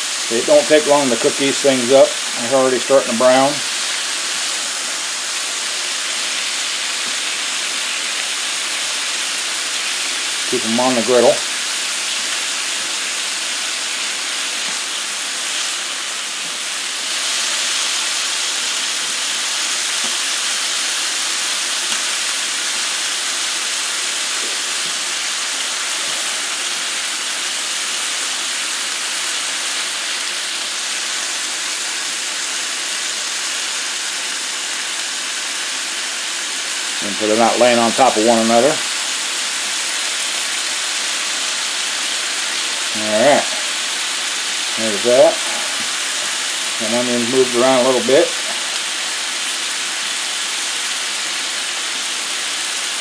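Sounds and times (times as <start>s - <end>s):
beef and onions sizzling on griddle: 0.0s - 53.0s.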